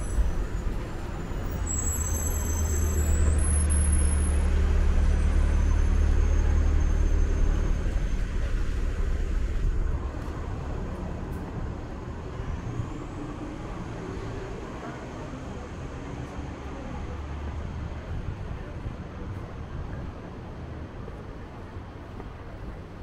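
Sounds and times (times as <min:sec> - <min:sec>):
heavy vehicle engine rumbling: 0:00.0 - 0:23.0
street traffic noise: 0:00.0 - 0:23.0.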